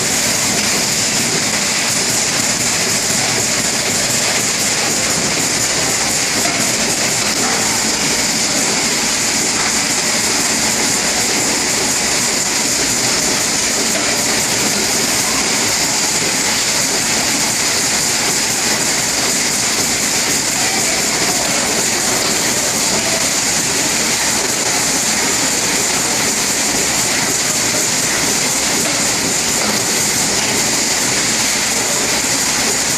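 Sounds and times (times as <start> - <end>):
machine mechanical clatter: 0.0 - 32.9
steady machine hiss: 0.0 - 32.9.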